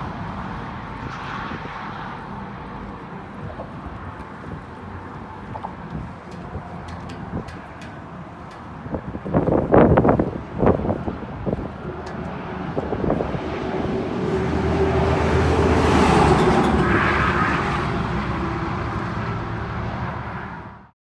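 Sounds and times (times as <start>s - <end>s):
passing vehicle engine: 0.0s - 20.9s.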